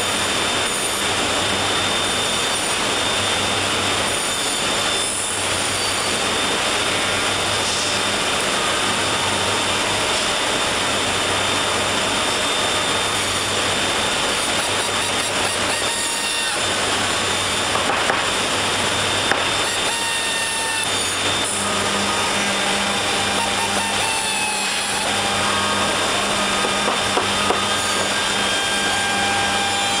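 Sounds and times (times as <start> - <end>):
cnc router humming and whining: 0.0 - 30.0.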